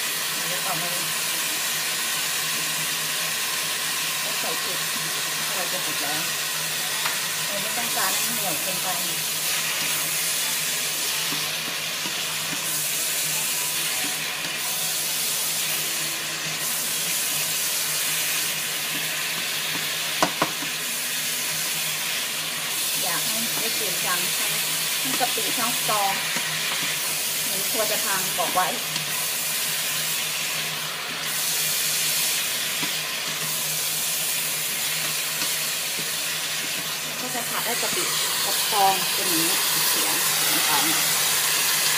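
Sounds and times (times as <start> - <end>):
food sizzling in a wok: 0.0 - 41.9.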